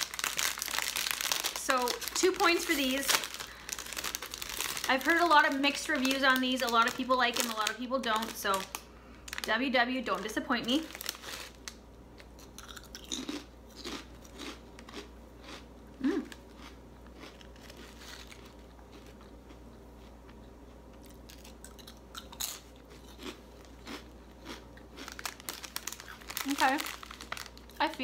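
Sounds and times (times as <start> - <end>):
person crunching crisp: 0.0 - 8.7, 10.8 - 20.4, 21.0 - 27.8.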